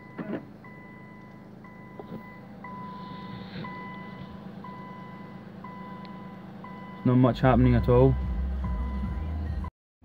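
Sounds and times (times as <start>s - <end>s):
electronic warning beeps: 0.0s - 9.7s
low steady hum: 0.0s - 9.7s.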